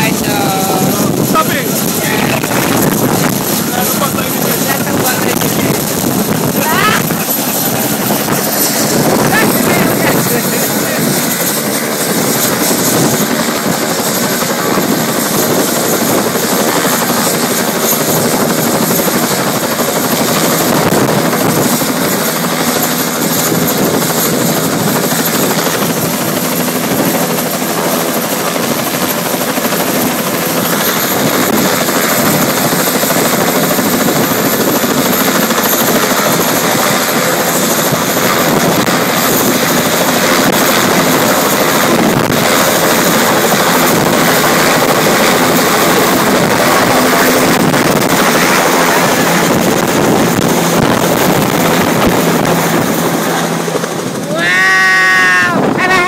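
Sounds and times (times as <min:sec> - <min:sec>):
helicopter engine and rotor running: 0:00.0 - 0:56.0.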